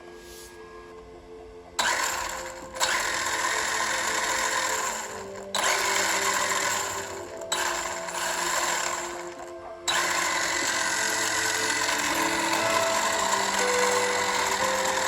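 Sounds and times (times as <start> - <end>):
background music with sustained notes: 0.0 - 15.0
rc car motor whirring: 1.8 - 15.0.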